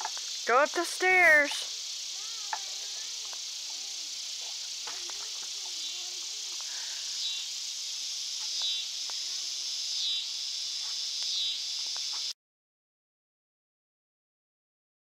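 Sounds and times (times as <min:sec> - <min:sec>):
crickets and katydids buzzing: 0:00.0 - 0:12.4
pulsed insect call: 0:00.0 - 0:12.4.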